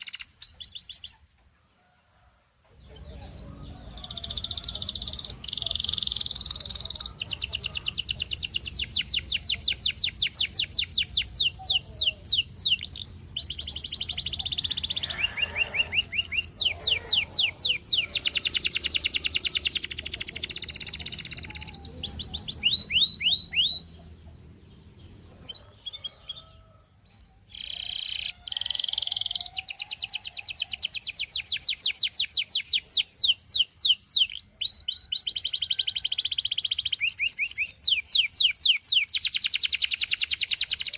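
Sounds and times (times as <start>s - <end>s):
canary singing fast trills: 0.0s - 1.3s, 2.8s - 40.9s.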